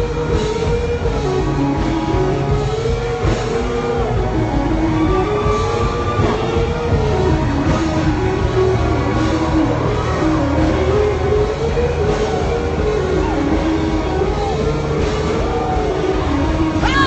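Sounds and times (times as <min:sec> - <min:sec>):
heavy steady bass: 0:00.0 - 0:17.0.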